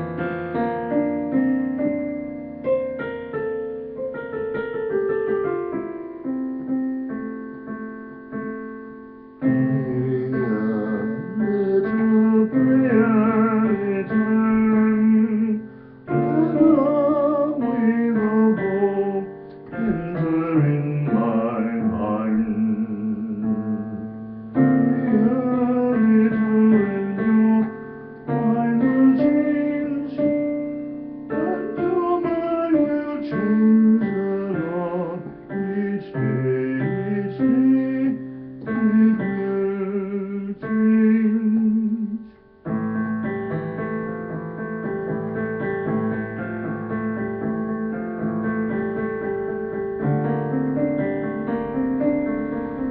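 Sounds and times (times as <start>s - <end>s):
slow piano chords: 0.0s - 52.9s.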